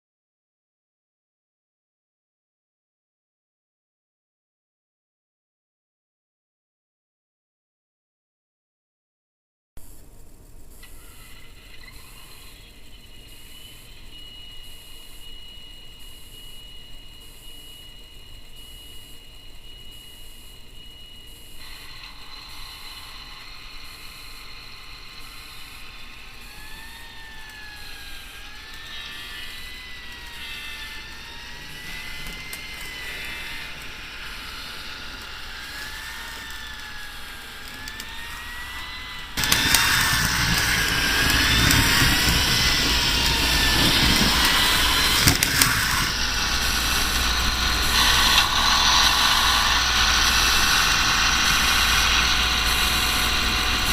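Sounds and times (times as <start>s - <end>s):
faint wavering whine: 9.8s - 53.9s.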